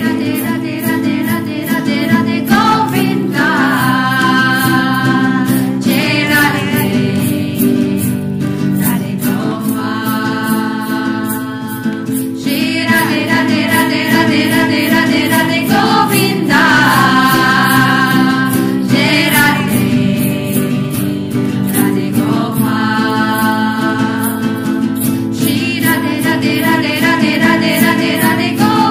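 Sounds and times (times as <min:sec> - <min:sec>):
group singing devotional chant: 0:00.0 - 0:28.9
rhythmic accompaniment: 0:00.0 - 0:28.9.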